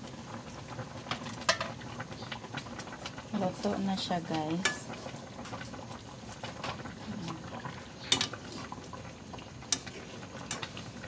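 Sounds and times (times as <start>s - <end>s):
pot bubbling at a simmer: 0.0s - 11.0s.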